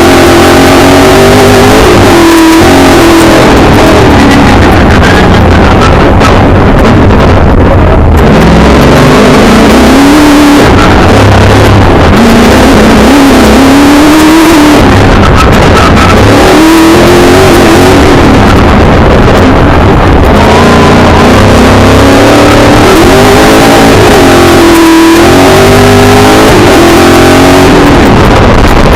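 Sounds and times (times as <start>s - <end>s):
racing car engine revving: 0.0s - 28.9s
road and drivetrain noise: 0.0s - 28.9s.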